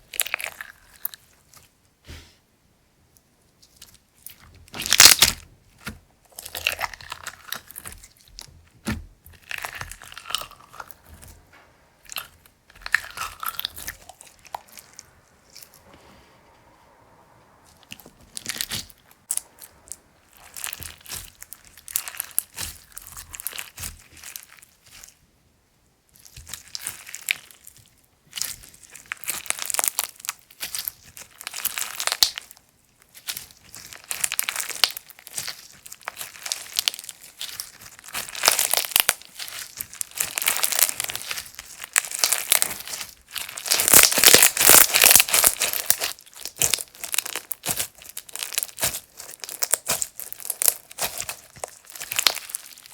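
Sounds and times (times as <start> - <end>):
slime crackling and popping: 3.7 - 15.8, 17.7 - 25.2, 26.1 - 52.9.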